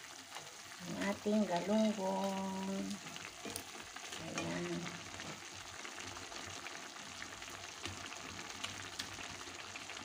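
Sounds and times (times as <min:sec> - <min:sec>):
sauce simmering in a frying pan: 0:00.0 - 0:10.0.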